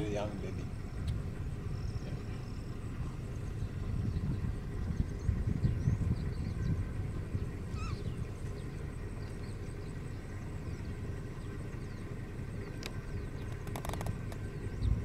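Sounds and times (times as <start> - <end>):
vehicle engine rumbling: 0.0 - 15.0
faint bird chirps: 0.6 - 15.0.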